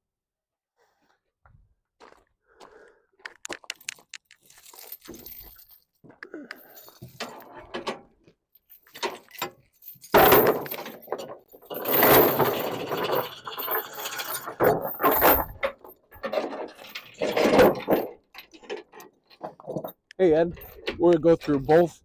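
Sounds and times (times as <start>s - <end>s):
metal chain clanking and rattling: 3.5s - 21.9s.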